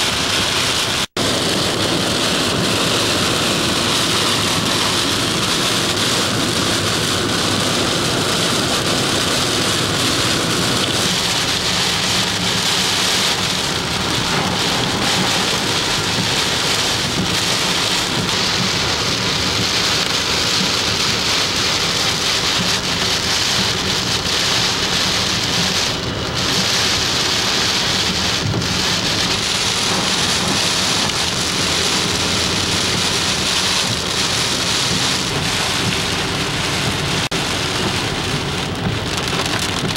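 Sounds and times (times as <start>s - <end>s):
heavy rain on car windshield: 0.0s - 39.9s.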